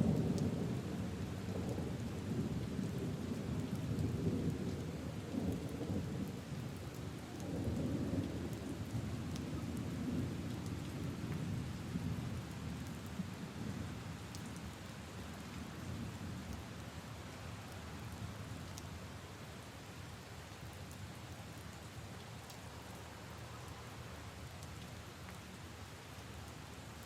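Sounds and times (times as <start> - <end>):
rain on leaves and puddles: 0.0 - 27.0.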